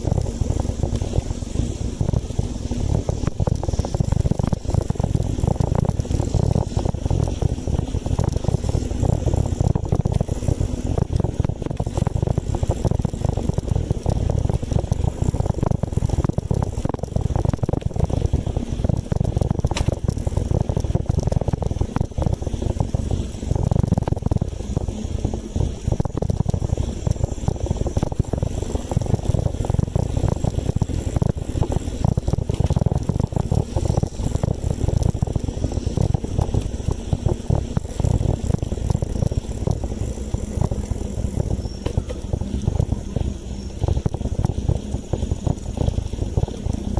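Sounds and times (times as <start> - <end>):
bicycle tyres rolling: 0.0 - 46.9
wind buffeting microphone: 0.0 - 46.9.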